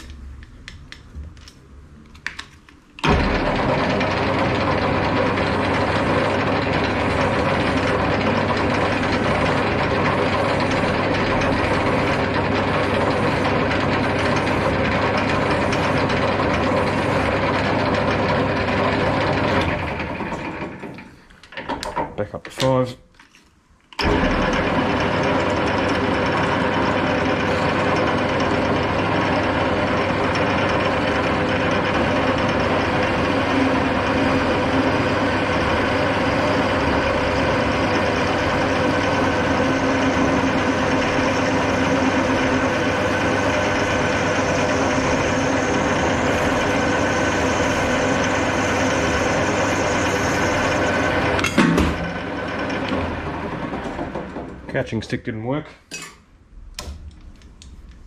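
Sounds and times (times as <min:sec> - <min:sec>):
metal lathe running: 0:03.0 - 0:22.0, 0:24.0 - 0:54.7.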